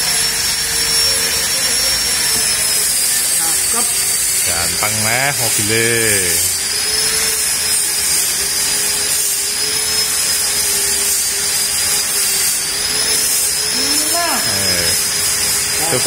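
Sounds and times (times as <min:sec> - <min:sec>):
machine motor whine: 0:00.0 - 0:16.0.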